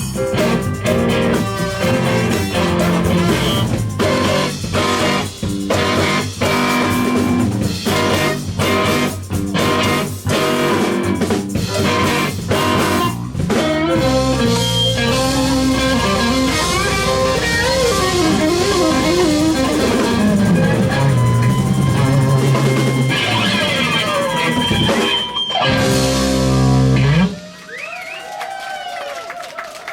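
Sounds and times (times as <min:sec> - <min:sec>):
bending lead guitar line: 0:00.0 - 0:27.8
live rock band playing: 0:00.0 - 0:27.9.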